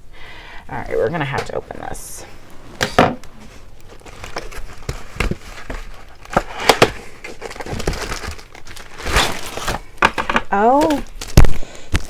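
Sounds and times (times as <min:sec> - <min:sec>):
packaging crackling and crinkling: 0:01.8 - 0:12.0.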